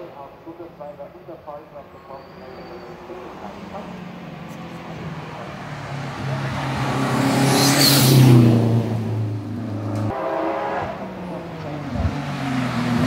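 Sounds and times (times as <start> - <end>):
race car engine at full throttle: 0.0 - 13.0.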